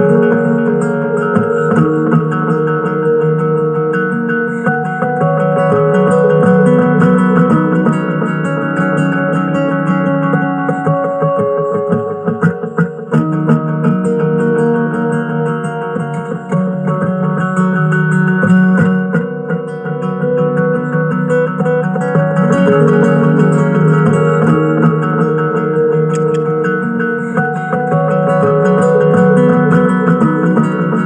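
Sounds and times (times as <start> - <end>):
layered acoustic guitar music: 0.0 - 31.0.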